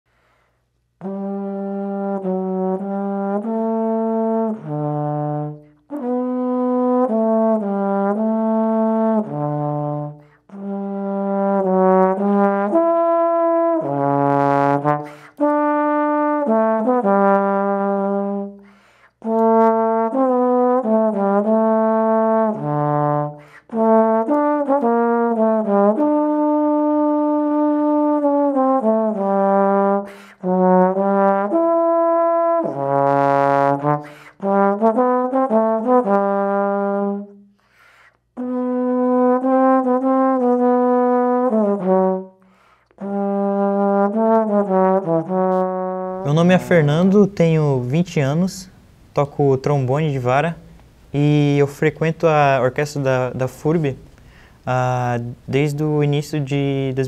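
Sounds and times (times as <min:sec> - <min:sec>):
solo trombone melody: 0:01.0 - 0:48.8.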